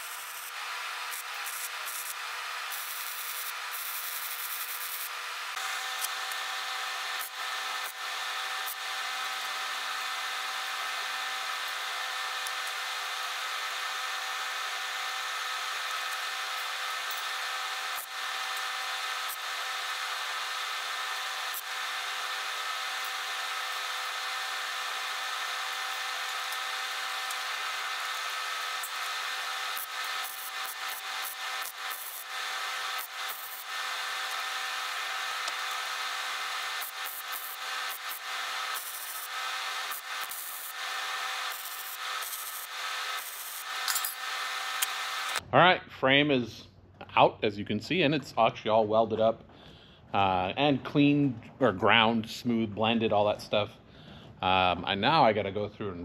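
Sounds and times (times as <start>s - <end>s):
power grinder on steel: 0.0s - 45.4s.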